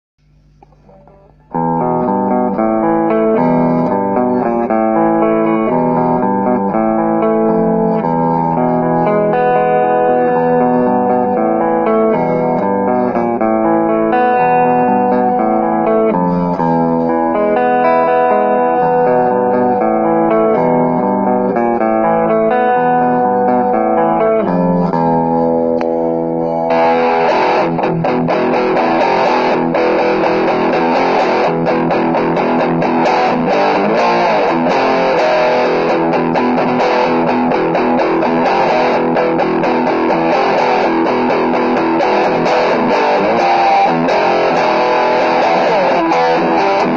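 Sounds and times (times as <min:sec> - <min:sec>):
electric guitar through an amp: 0:00.2 - 0:46.9.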